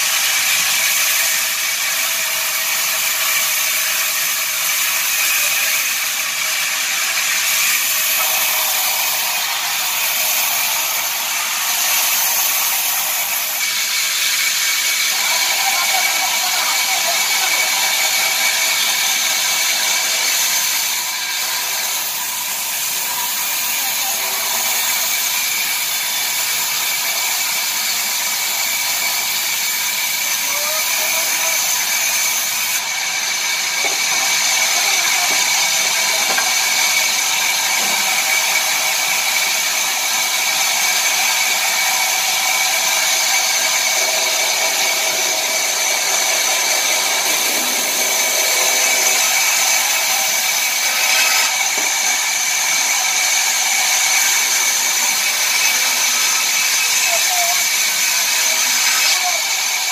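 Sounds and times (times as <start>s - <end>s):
sawmill machinery hissing and whining: 0.0s - 59.9s.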